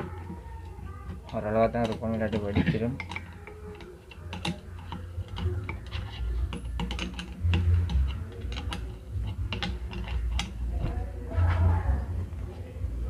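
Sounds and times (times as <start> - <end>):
metal parts clicking and tapping: 0.0 - 11.0.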